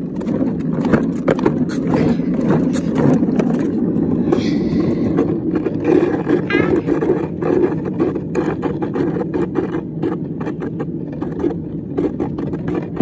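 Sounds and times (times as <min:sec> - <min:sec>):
hard wheels rolling on concrete: 0:00.0 - 0:13.0.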